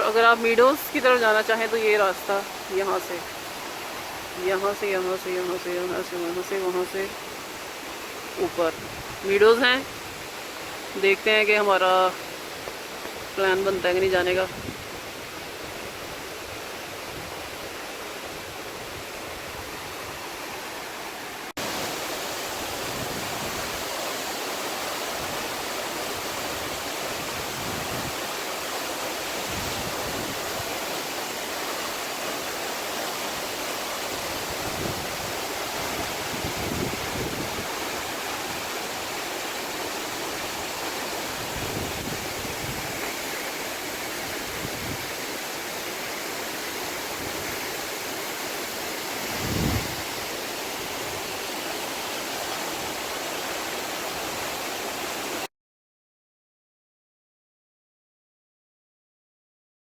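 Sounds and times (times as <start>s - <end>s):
waterfall rushing: 0.0s - 55.5s.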